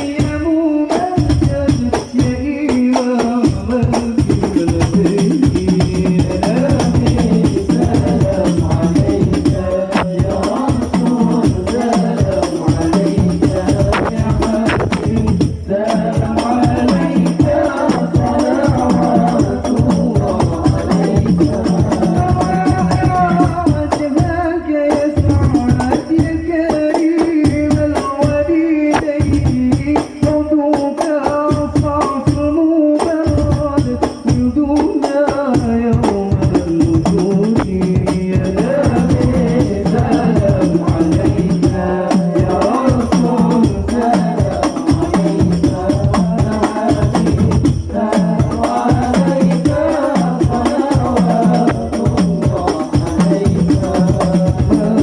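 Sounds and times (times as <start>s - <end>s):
hand-drum and jingle percussion: 0.0s - 55.0s.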